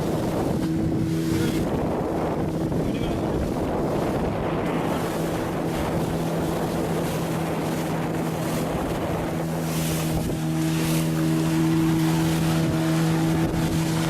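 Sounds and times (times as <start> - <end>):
boat engine running: 0.0 - 14.0
rushing water: 0.0 - 14.0
wind noise on microphone: 0.0 - 14.0.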